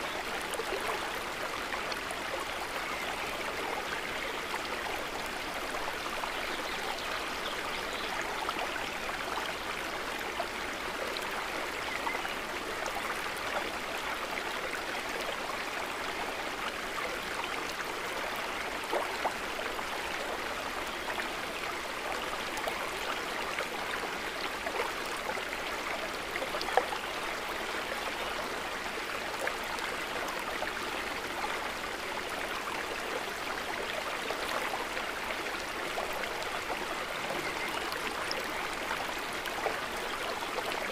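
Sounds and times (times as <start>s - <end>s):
lake water trickling: 0.0s - 40.9s.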